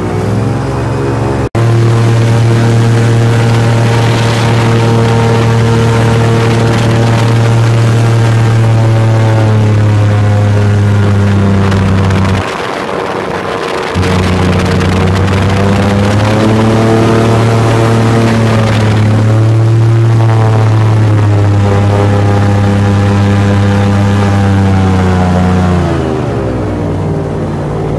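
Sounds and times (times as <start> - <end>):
airboat engine and propeller drone: 0.0 - 27.9.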